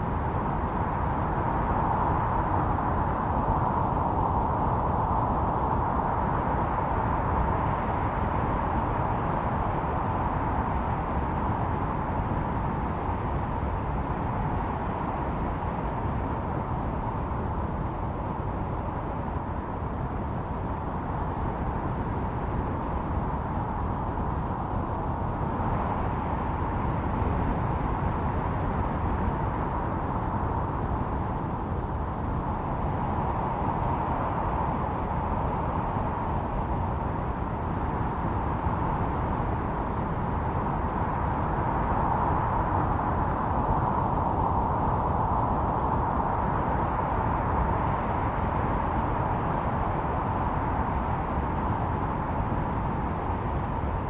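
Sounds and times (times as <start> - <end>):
howling blizzard wind: 0.0 - 54.0.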